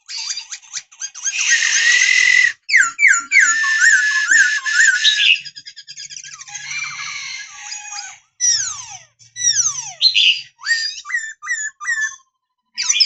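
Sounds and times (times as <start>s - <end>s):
bird whistling and trilling: 0.0s - 12.2s, 12.8s - 13.0s.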